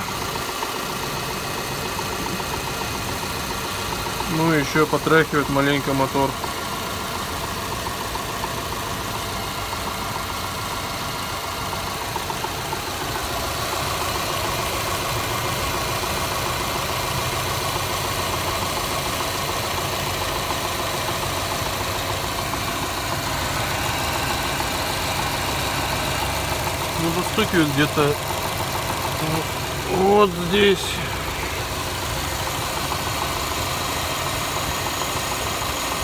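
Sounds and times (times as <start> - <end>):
car engine idling rough: 0.0 - 36.0
engine knock: 0.0 - 36.0.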